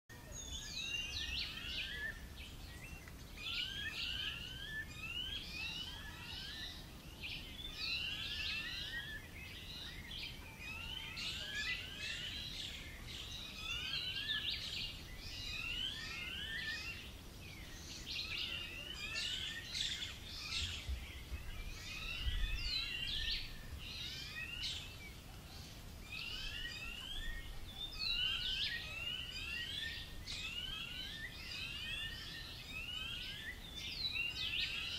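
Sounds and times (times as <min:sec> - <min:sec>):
birds singing and chirping: 0:00.1 - 0:34.9.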